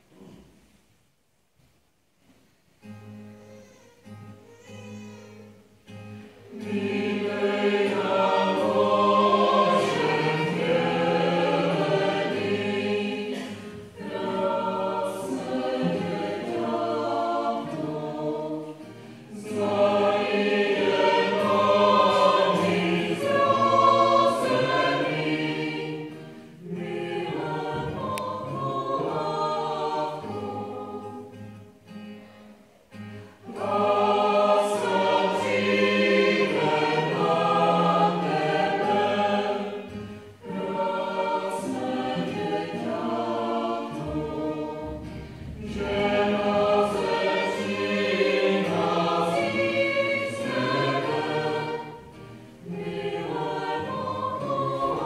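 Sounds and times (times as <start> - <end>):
mixed choir singing: 6.1 - 32.2, 33.2 - 55.0.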